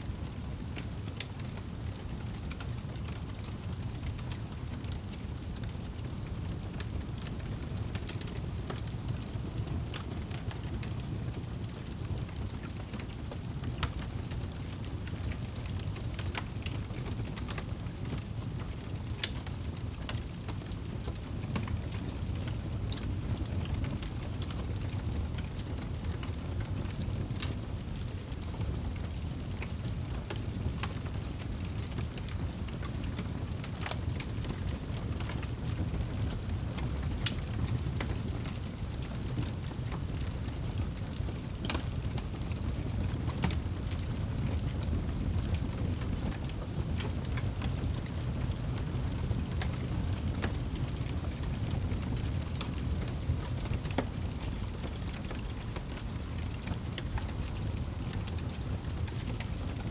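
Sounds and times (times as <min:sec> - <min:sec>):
fire flames rumbling: 0:00.0 - 0:59.9
fire crackling and popping: 0:00.1 - 0:59.9.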